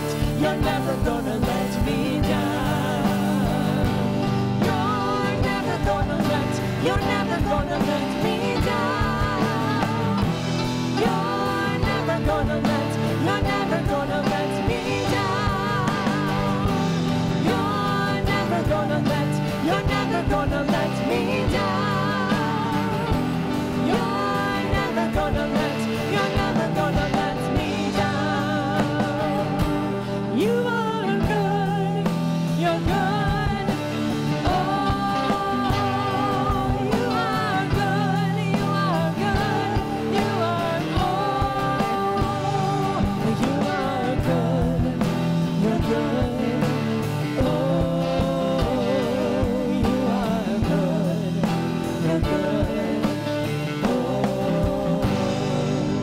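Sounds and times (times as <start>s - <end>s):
band playing worship song: 0.0s - 56.0s
lead vocal singing: 0.0s - 56.0s.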